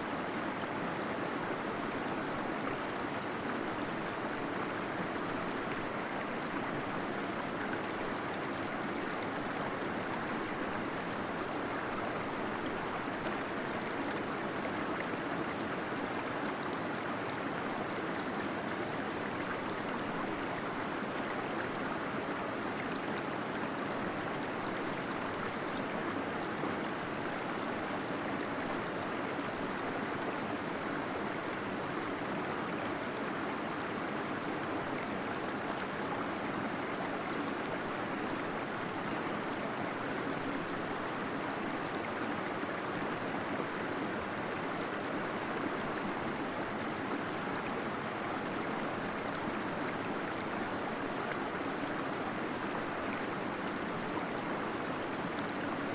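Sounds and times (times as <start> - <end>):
gentle waterfall gurgling: 0.0 - 55.9.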